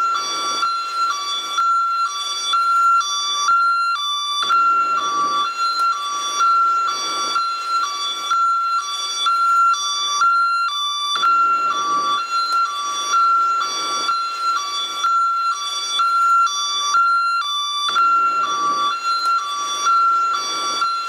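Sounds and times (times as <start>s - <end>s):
ambulance siren hi-lo tones: 0.0s - 21.0s.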